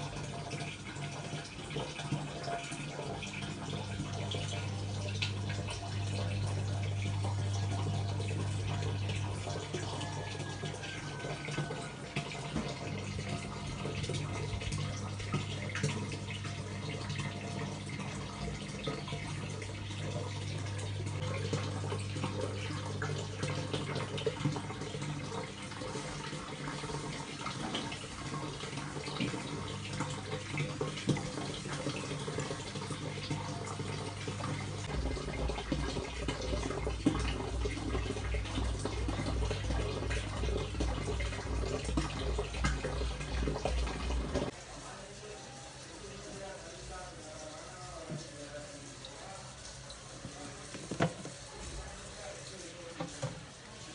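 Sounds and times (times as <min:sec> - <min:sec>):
water running: 0:00.0 - 0:53.9.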